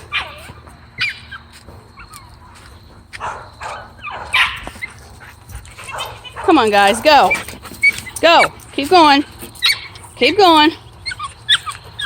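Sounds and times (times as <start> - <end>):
dog barking and yelping: 0.0 - 5.0, 5.8 - 12.0.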